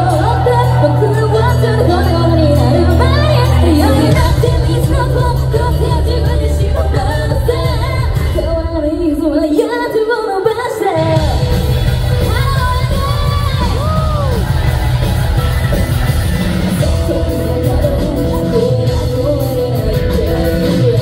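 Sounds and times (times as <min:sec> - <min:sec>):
woman singing: 0:00.0 - 0:14.6, 0:16.7 - 0:21.0
live rock band: 0:00.0 - 0:21.0.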